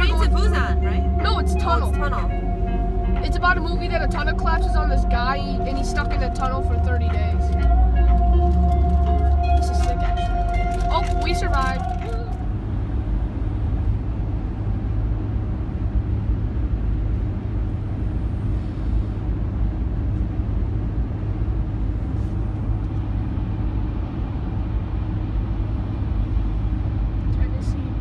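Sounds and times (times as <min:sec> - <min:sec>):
car cabin road rumble: 0:00.0 - 0:28.0.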